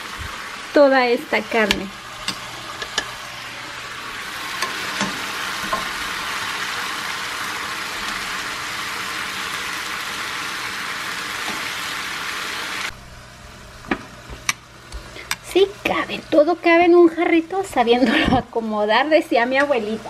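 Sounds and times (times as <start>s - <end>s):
meat sizzling in frying pan: 0.0s - 17.5s.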